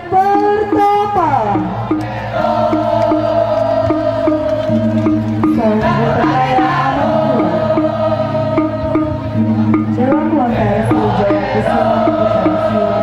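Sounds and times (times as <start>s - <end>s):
gamelan held tones: 0.0s - 13.0s
girls singing: 1.9s - 9.4s, 10.0s - 13.0s.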